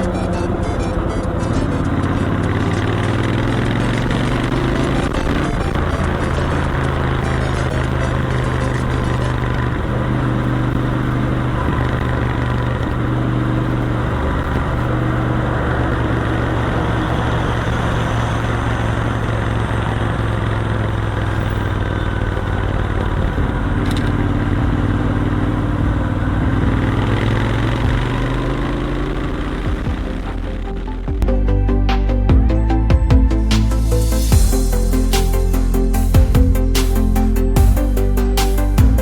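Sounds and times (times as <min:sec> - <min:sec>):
wind and road noise: 0:00.0 - 0:31.3
motorcycle engine running: 0:00.0 - 0:31.4, 0:33.0 - 0:39.0.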